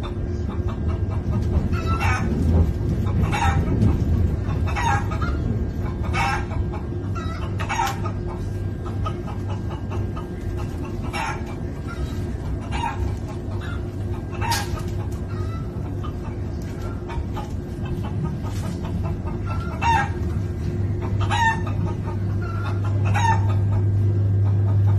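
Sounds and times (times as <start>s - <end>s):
moving train rumble: 0.0s - 24.9s
recorded chicken clucking: 0.0s - 24.9s.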